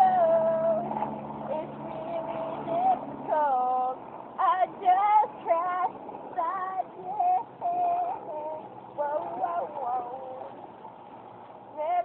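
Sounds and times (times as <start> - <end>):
woman singing unaccompanied: 0.0 - 10.6, 11.7 - 12.0.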